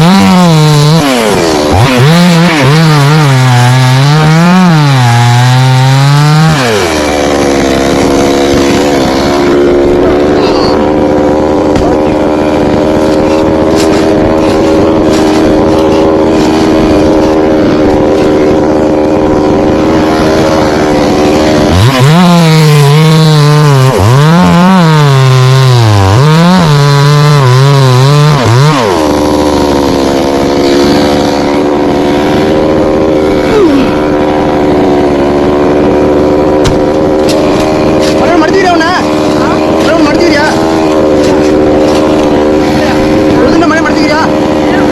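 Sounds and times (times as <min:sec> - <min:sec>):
chainsaw cutting through trunk: 0:00.0 - 0:44.9
chainsaw idling and revving: 0:00.0 - 0:44.9.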